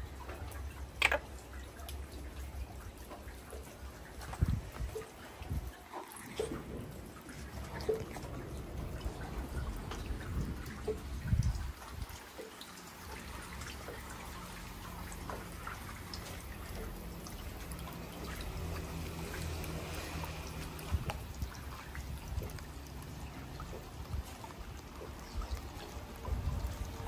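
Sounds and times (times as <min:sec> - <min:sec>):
rain: 0:00.0 - 0:27.0
water trickling and dripping: 0:00.0 - 0:27.0.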